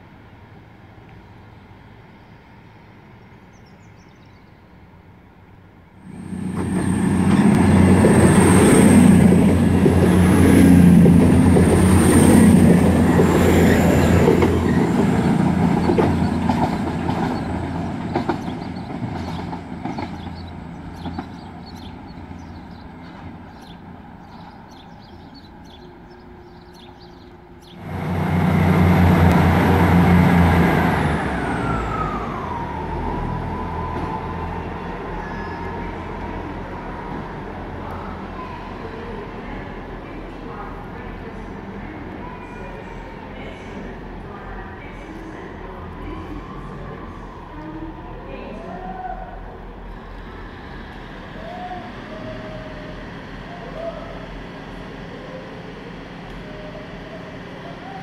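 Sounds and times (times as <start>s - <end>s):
diesel train engine deep hum: 0.0s - 58.0s
diesel train engines running: 4.6s - 58.0s.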